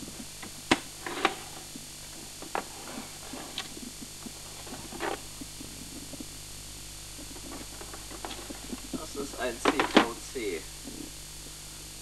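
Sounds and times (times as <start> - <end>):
mains hum: 0.0 - 12.0
tape hiss: 0.0 - 12.0.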